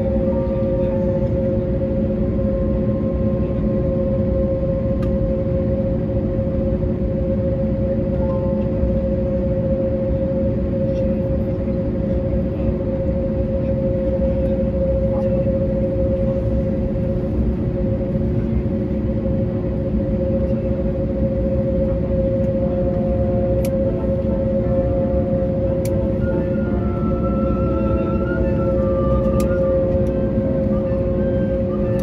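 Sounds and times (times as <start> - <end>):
airplane cabin engine hum: 0.0 - 32.0.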